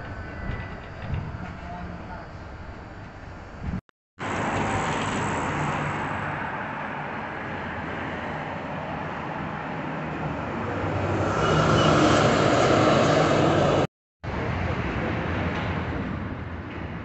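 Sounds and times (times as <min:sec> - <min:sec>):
trams and cars going by: 0:00.0 - 0:17.0.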